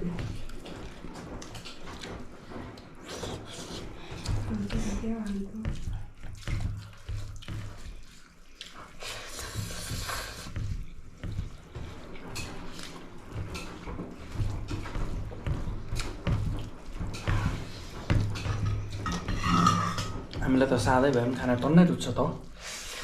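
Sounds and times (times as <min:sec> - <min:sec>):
wet eating sounds: 0:00.0 - 0:23.0.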